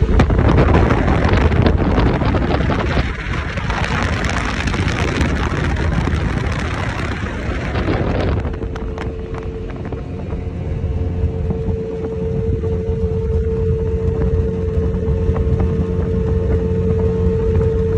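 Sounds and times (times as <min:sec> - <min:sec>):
outboard motor running: 0:00.0 - 0:17.9
wind rush on microphone: 0:00.0 - 0:17.9.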